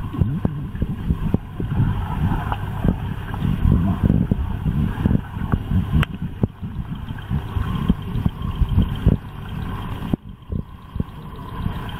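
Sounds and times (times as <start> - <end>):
underwater rumble of moving water: 0.0 - 11.9.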